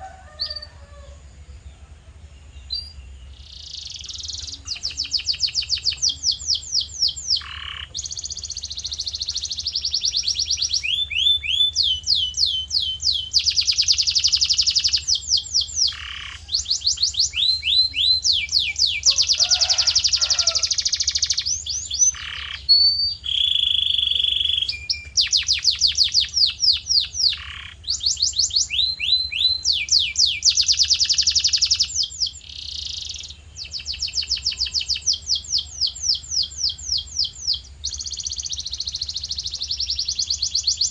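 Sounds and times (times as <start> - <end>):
canary singing: 2.7 - 40.9.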